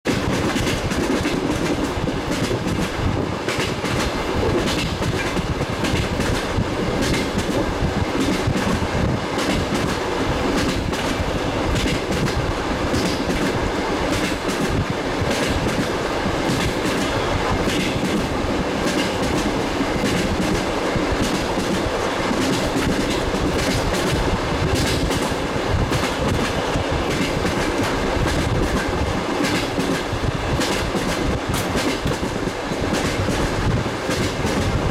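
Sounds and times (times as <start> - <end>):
train wheels clacking over rail joints: 0.1 - 34.9.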